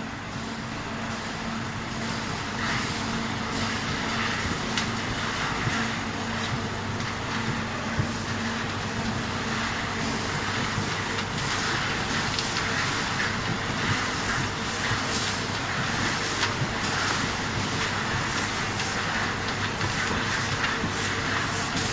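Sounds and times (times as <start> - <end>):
machine hissing: 1.1 - 21.9.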